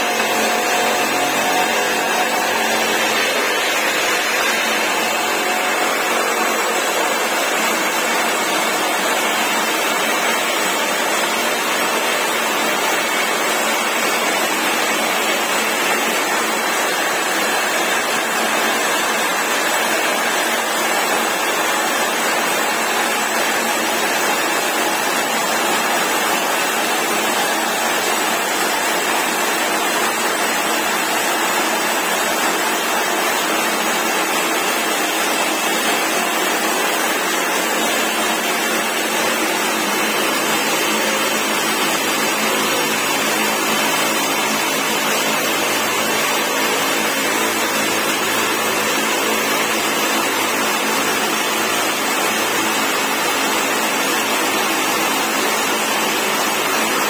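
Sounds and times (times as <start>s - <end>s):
hydraulic rock drills: 0.0s - 57.0s.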